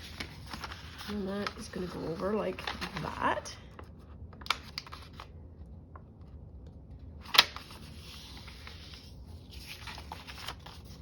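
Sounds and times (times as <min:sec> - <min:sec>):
paper rustling: 0:00.0 - 0:05.3, 0:07.2 - 0:11.0.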